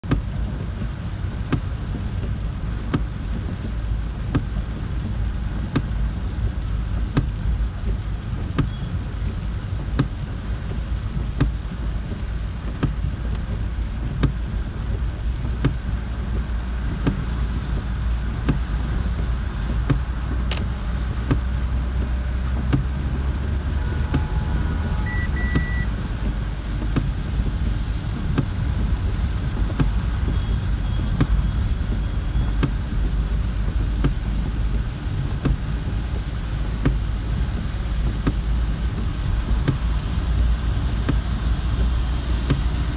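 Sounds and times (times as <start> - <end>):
car engine and tyres rumbling: 0.0 - 42.9
rain on windscreen: 0.0 - 42.9
windscreen wiper ticks: 0.0 - 42.9.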